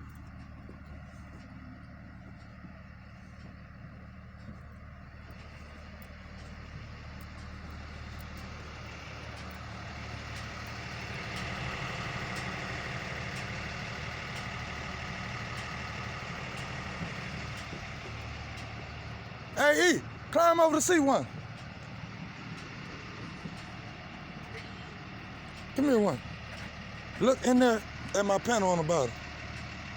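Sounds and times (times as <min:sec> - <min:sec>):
heavy vehicle engine idling: 0:00.0 - 0:29.9.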